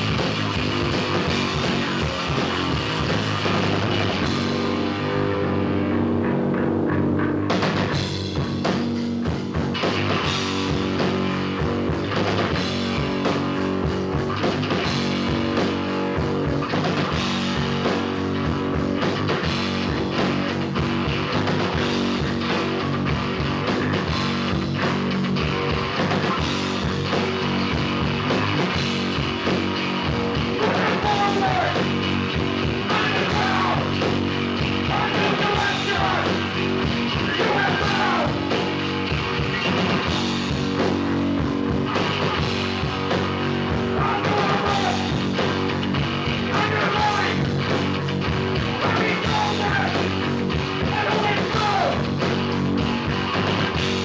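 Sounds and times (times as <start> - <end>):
bass guitar: 0.0 - 54.0
distorted electric guitar: 0.0 - 54.0
drums: 0.0 - 54.0.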